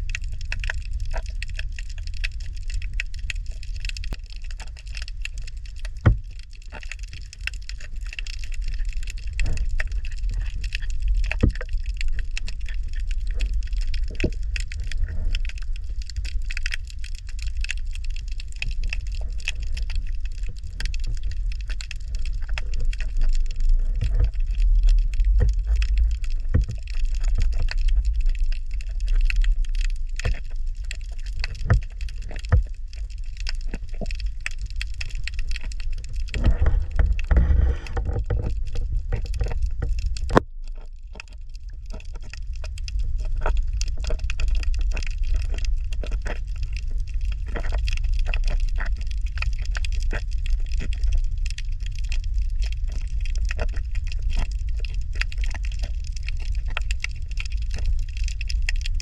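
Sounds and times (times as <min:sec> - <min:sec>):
steady low rumble: 0:00.0 - 0:50.5
dense crackling clicks: 0:00.0 - 0:59.0.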